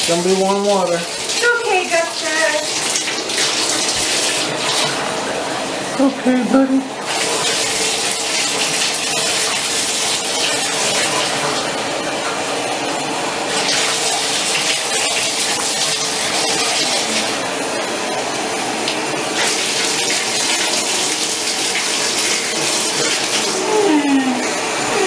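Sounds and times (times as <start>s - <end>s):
water running into bathtub: 0.0s - 25.0s.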